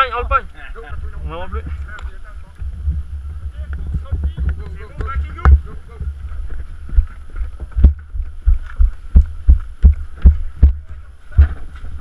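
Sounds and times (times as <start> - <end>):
wind hiss on microphone: 0.0 - 12.0
running footsteps with heavy thuds: 0.9 - 12.0.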